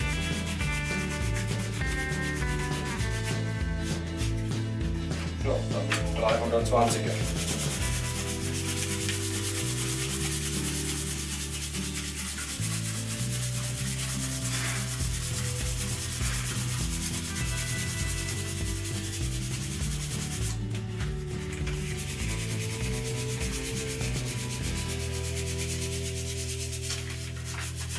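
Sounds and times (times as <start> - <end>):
sandpaper sanding cork: 0.0 - 27.9.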